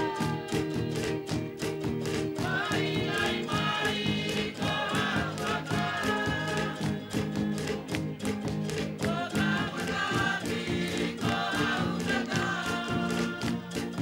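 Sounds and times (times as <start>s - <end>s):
group of voices singing: 0.0s - 1.0s, 2.3s - 7.8s, 8.7s - 14.0s.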